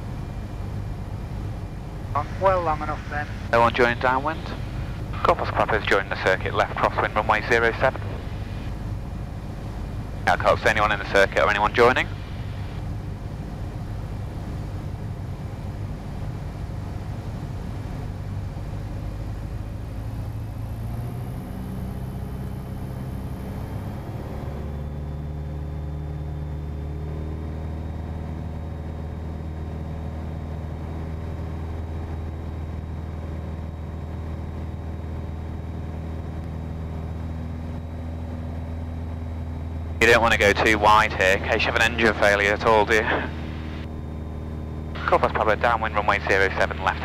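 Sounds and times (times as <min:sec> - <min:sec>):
airplane engine droning in cockpit: 0:00.0 - 0:47.0.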